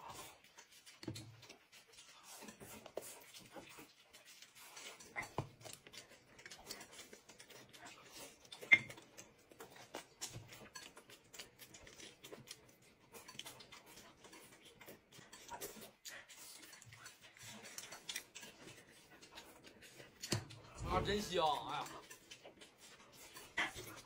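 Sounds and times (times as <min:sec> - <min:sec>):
wet clicks and crackles of eating: 0:00.0 - 0:24.0.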